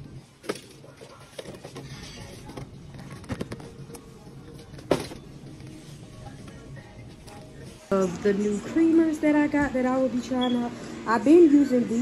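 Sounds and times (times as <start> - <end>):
faint voices: 0.0 - 12.0
soft background music: 1.9 - 12.0.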